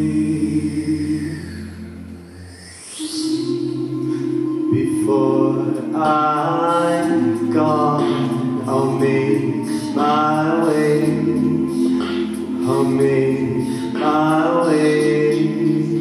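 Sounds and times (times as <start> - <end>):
a cappella group singing: 0.0 - 16.0.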